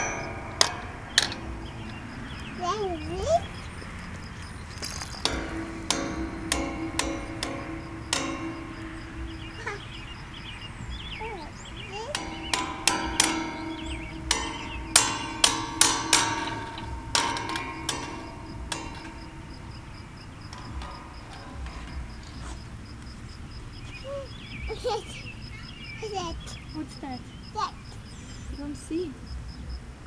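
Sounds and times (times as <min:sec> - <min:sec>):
toy hammer tapping metal railings: 0:00.0 - 0:25.2.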